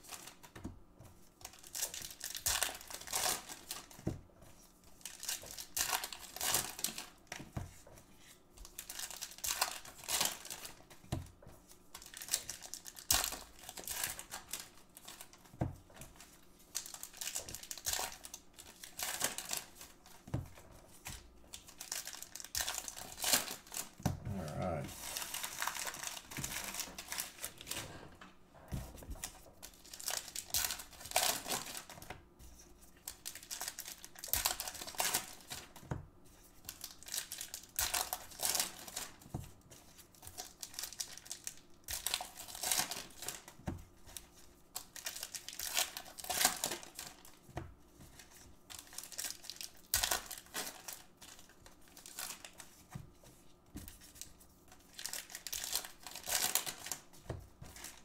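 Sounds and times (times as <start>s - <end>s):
wrappers crinkling and tearing: 1.4s - 4.0s, 5.0s - 7.4s, 8.2s - 11.0s, 11.8s - 28.1s, 29.2s - 47.5s, 48.1s - 58.0s.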